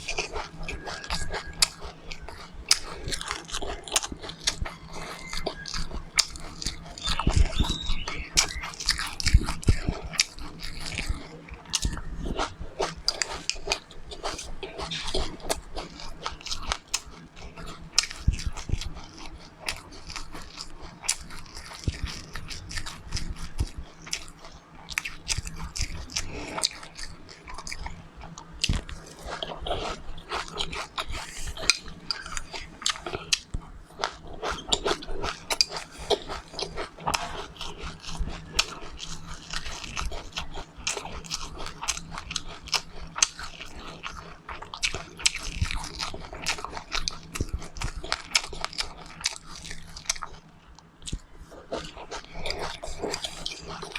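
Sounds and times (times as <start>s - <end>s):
person chewing seeds: 0.0s - 53.9s.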